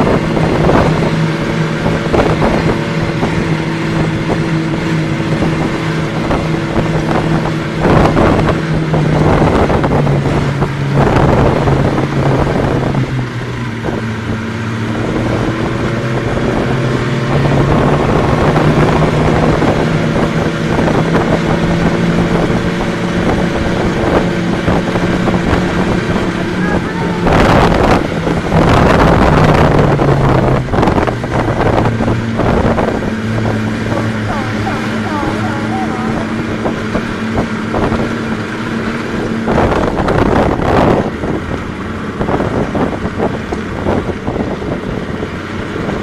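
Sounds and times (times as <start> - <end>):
snowmobile engine running: 0.0 - 46.0
wind buffeting microphone: 0.0 - 46.0.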